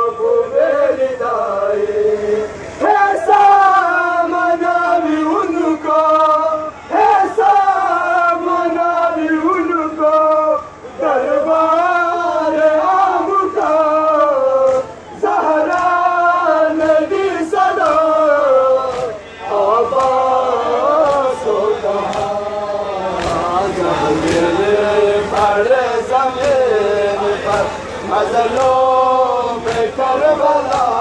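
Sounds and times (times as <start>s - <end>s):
crowd of men chanting: 0.0s - 31.0s.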